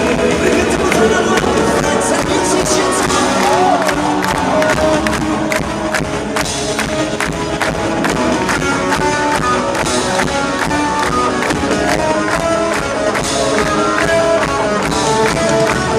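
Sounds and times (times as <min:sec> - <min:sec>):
guitar playing: 0:00.0 - 0:15.9
live band music: 0:00.0 - 0:15.9.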